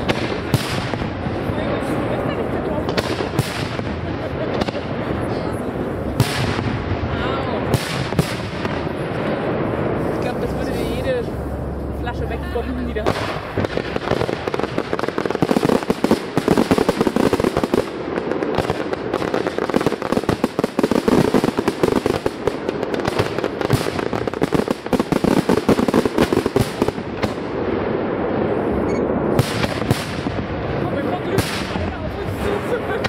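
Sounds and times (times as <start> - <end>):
fireworks bursting: 0.0 - 33.0.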